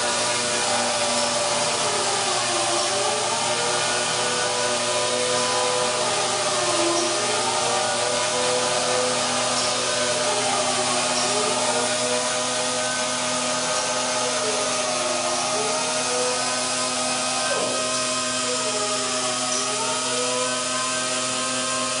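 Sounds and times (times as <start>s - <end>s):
orbital sander whining: 0.0s - 22.0s.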